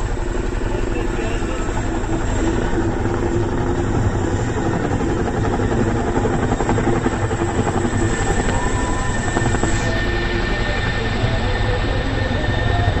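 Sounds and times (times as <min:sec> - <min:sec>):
helicopter rotors chopping: 0:00.0 - 0:13.0.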